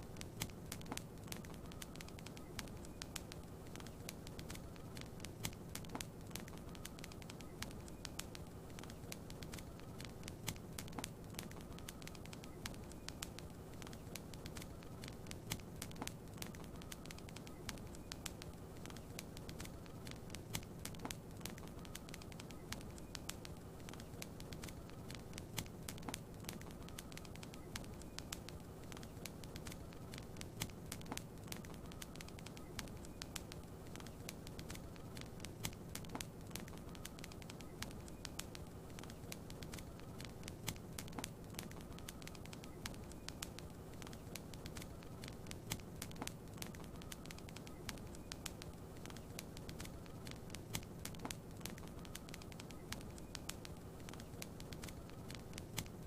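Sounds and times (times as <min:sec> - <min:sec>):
wood fire crackling: 0:00.0 - 0:56.0
sharp pops: 0:00.2 - 0:56.0.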